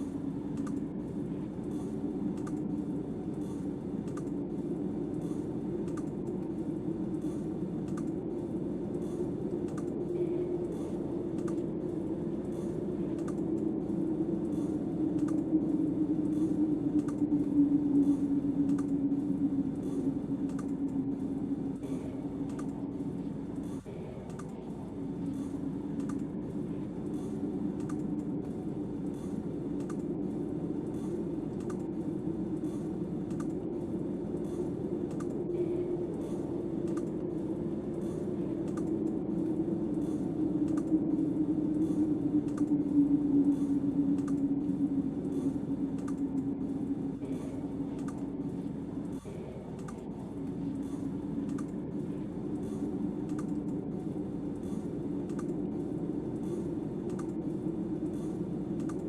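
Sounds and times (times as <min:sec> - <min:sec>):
faint clicks: 0:00.0 - 0:00.9, 0:01.5 - 0:59.0
wind howling: 0:00.0 - 0:59.0.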